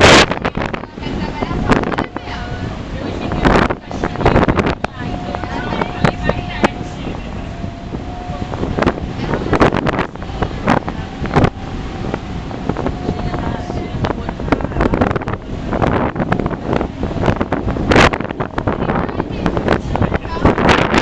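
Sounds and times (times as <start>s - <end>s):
boat engine and water rushing: 0.0s - 21.0s
wind buffeting microphone: 0.0s - 21.0s.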